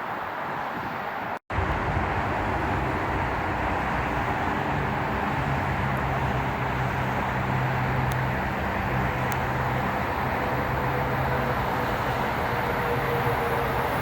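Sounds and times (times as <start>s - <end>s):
train rumbling by: 0.4s - 14.0s.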